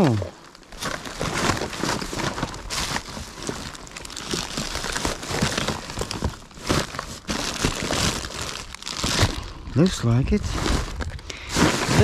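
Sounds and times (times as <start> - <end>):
rummaging through rubbish: 0.0 - 12.0.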